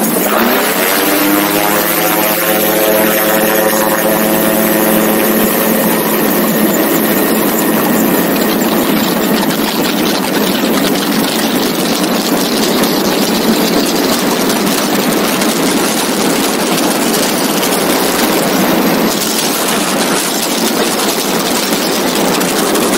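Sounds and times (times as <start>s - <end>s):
aircraft engine at high power: 0.0s - 22.9s.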